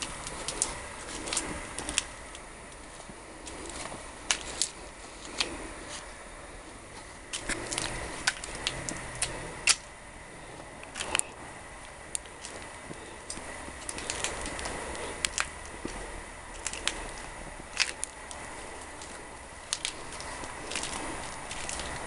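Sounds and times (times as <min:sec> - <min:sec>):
fire hissing and crackling: 0:00.0 - 0:22.0.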